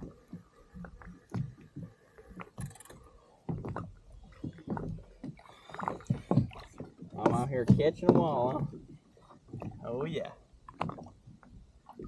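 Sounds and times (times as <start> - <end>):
water slapping against kayak hull: 0.0 - 12.0.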